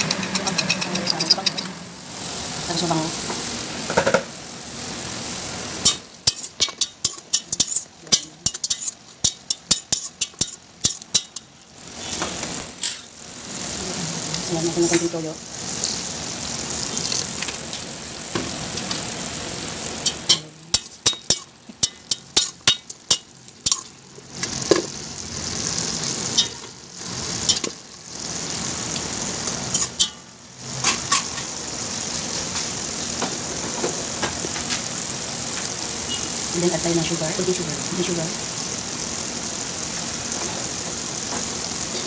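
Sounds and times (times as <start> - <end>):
chicken sizzling in a pan: 0.0 - 42.0.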